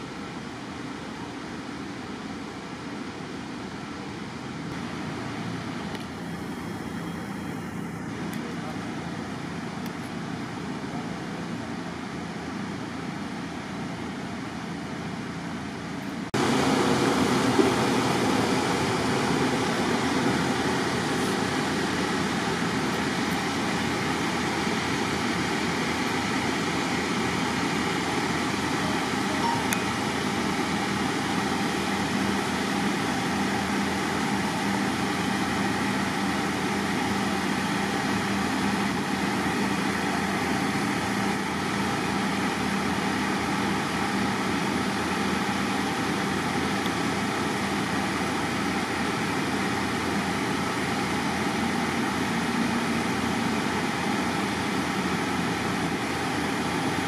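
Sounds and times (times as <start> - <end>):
machinery droning: 4.6 - 57.0.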